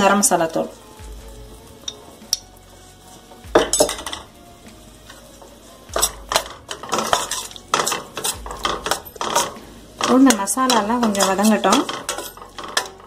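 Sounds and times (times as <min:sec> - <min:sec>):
metal spoon scraping a pan: 0:01.7 - 0:13.0.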